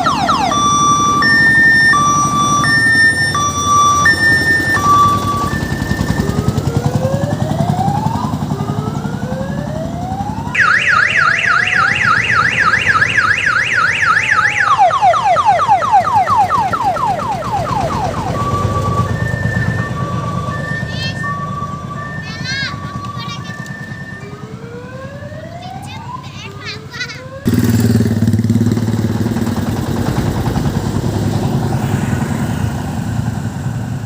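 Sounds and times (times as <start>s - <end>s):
electronic multi-tone siren: 0.0s - 33.9s
diesel engine running: 0.0s - 34.0s.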